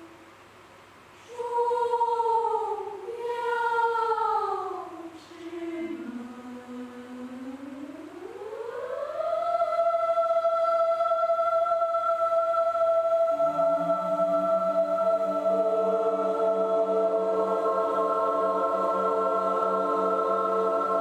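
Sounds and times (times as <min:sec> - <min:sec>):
mixed choir singing: 0:01.3 - 0:21.0.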